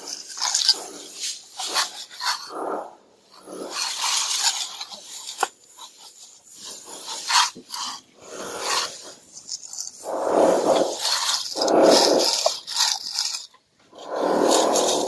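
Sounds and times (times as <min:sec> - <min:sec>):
trowel scraping mortar: 0:00.0 - 0:15.0.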